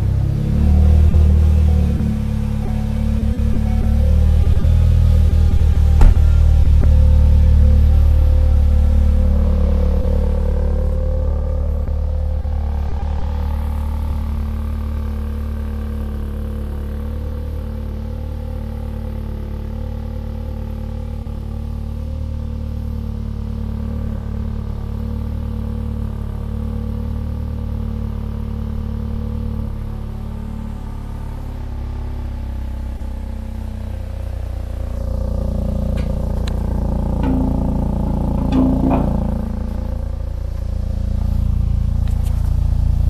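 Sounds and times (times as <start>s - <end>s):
car engine idling deep note: 0.0s - 26.7s, 30.2s - 43.0s.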